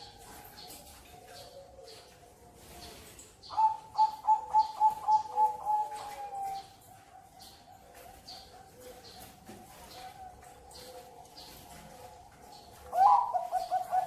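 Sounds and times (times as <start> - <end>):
dove cooing: 0.0 - 14.0
other doves cooing softly: 0.0 - 14.0.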